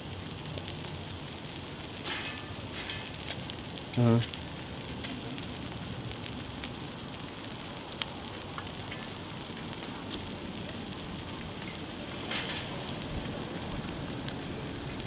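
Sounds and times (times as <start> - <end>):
brush fire crackling: 0.0 - 15.0.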